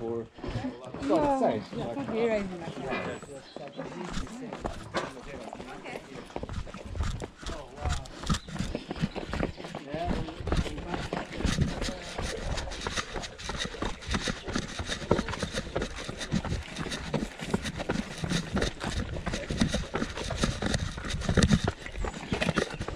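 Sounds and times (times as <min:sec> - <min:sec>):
running footsteps on dirt and rock: 0:00.0 - 0:22.9.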